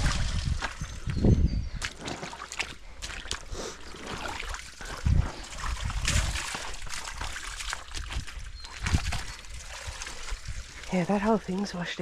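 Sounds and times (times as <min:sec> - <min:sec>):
heavy water splashes: 0:00.0 - 0:01.0, 0:01.8 - 0:12.0
puddle water sloshing: 0:00.0 - 0:12.0.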